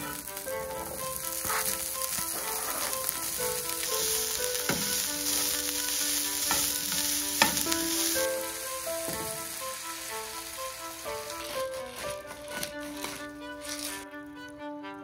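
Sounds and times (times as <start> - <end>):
food sizzling in a frying pan: 0.0 - 14.0
soft background music: 0.0 - 15.0.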